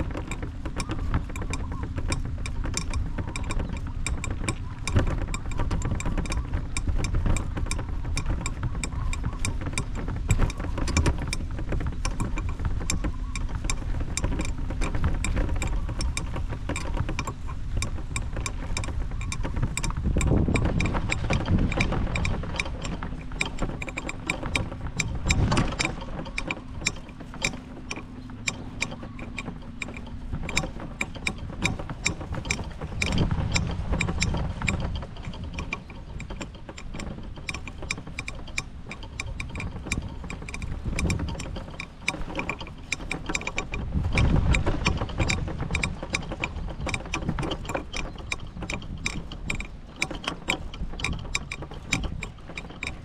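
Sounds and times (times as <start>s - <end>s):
rapid mechanical clicks and rattles: 0.0s - 53.0s
wind rumble on microphone: 0.0s - 53.0s.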